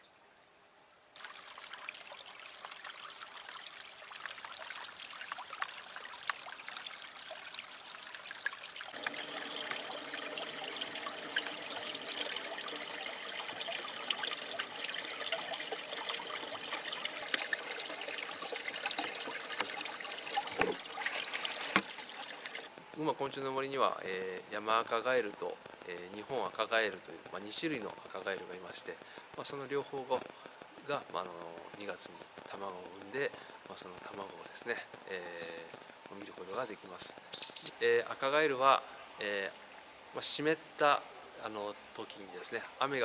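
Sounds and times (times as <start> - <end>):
water trickling: 0.0 - 43.0.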